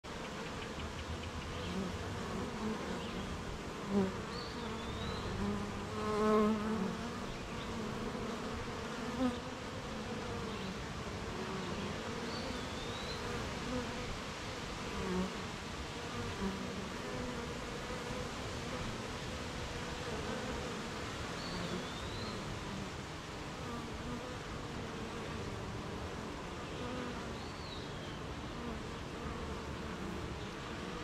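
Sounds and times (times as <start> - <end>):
bees humming around hive: 0.1 - 31.0
single bee buzzing past: 0.1 - 31.0.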